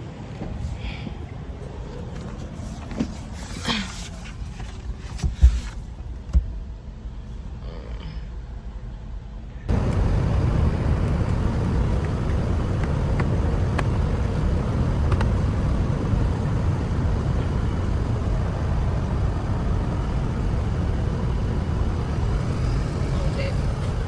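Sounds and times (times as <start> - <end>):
motor vehicle rumble: 0.0 - 24.0.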